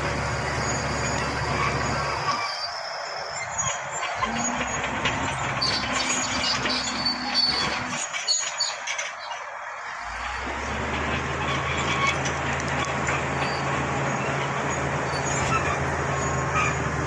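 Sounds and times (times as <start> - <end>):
bulldozer clattering and grinding: 0.0 - 17.0.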